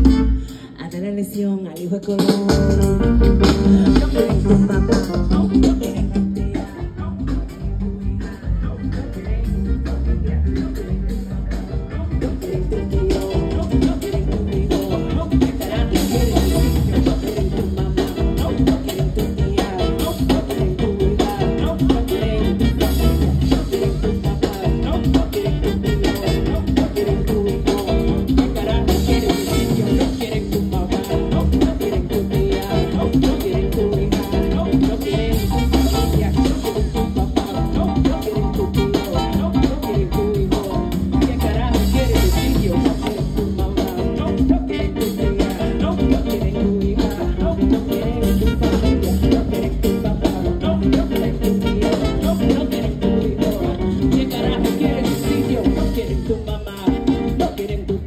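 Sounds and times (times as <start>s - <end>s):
live latin band playing: 0.0s - 58.0s.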